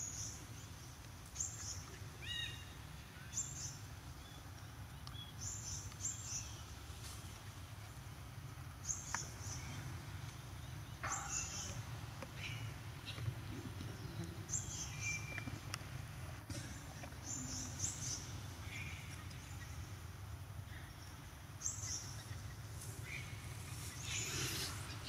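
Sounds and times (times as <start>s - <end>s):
forest birds chirping: 0.0s - 25.0s.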